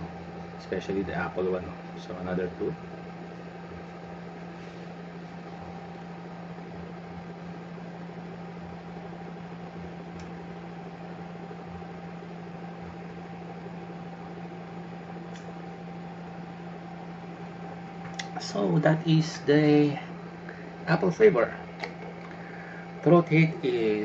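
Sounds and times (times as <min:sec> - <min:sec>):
electric fan humming: 0:00.0 - 0:24.0.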